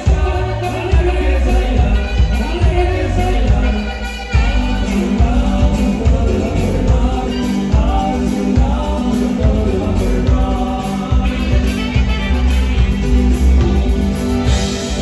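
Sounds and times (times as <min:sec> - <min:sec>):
saxophone-led live band music: 0:00.0 - 0:15.0.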